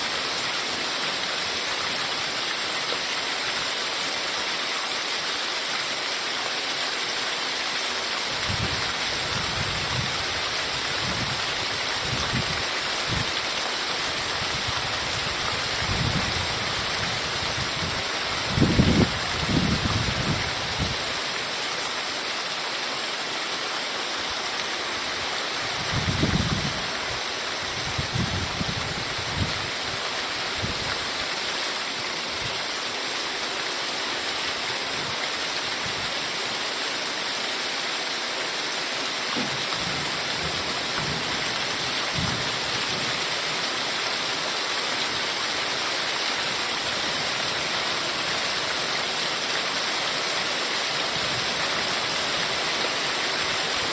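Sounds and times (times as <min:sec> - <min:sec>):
heavy rain hissing: 0:00.0 - 0:53.9.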